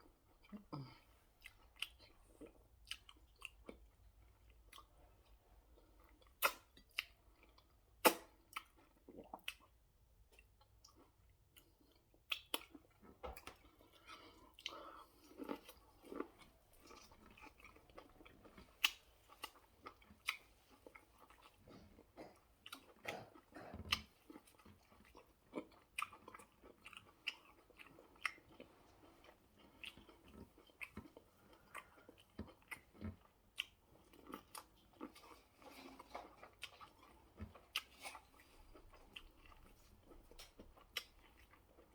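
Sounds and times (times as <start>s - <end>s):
chewing and biting food: 1.4s - 41.9s.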